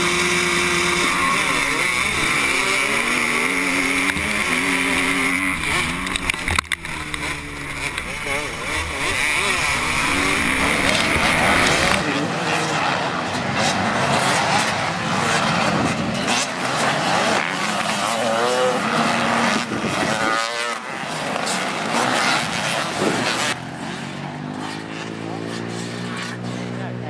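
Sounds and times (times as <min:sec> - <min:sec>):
motocross bikes revving: 0:00.0 - 0:27.0.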